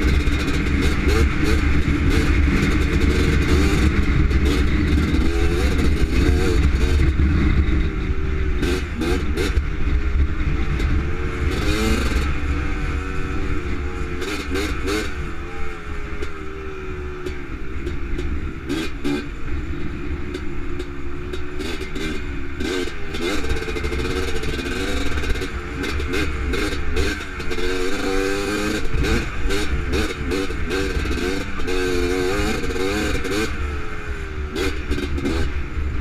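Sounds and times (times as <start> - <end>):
two-stroke engine revving: 0.0 - 36.0.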